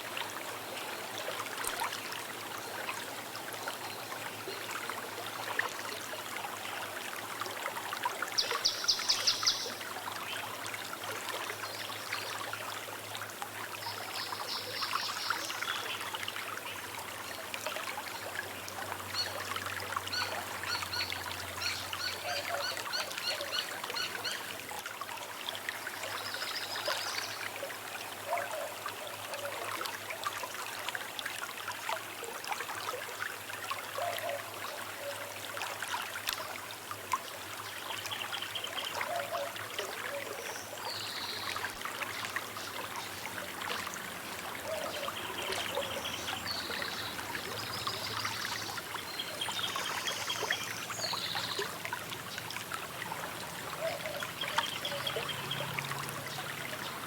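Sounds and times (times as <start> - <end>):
small river babbling: 0.0 - 57.0.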